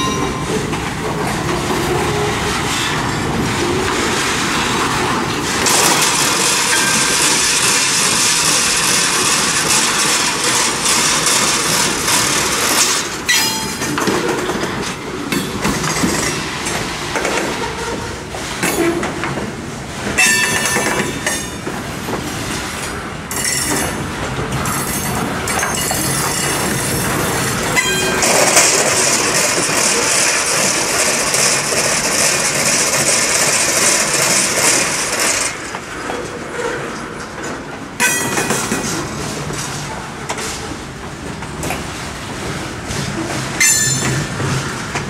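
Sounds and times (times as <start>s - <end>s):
freight cars rolling on rails: 0.0s - 45.0s.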